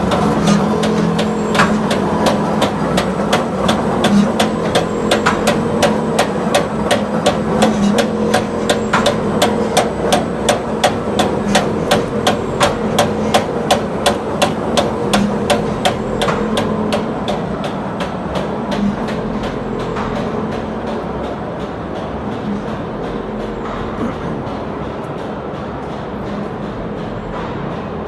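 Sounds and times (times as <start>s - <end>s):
motor hum: 0.0s - 27.6s
machine clacking rhythmically: 0.0s - 28.0s.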